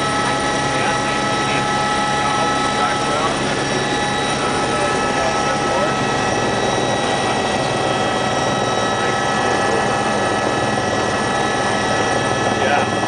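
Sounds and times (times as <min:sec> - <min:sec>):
helicopter turbine whine: 0:00.0 - 0:13.0
rotor and airflow noise: 0:00.0 - 0:13.0.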